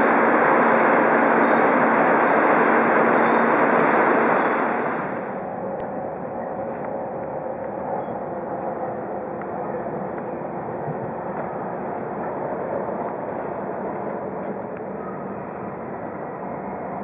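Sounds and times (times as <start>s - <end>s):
train interior running noise: 0.0s - 17.0s.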